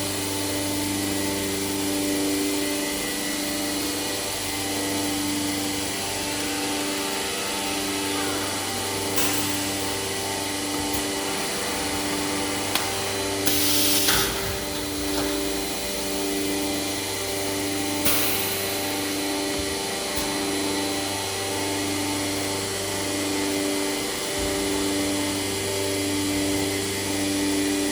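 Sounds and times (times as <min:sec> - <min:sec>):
machine mechanical hum: 0:00.0 - 0:27.9.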